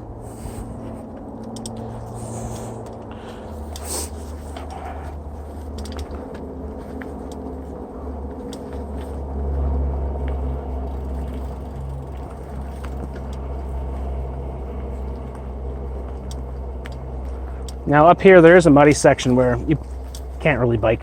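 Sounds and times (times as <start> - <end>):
bike clicks and rattles: 0.0 - 21.0
bike tyre noise: 0.0 - 21.0
low wind rumble: 0.0 - 21.0.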